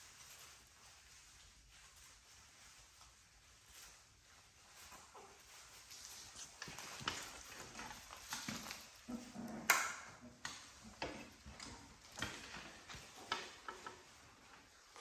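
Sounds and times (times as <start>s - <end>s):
puppies scuffling: 0.0s - 15.0s.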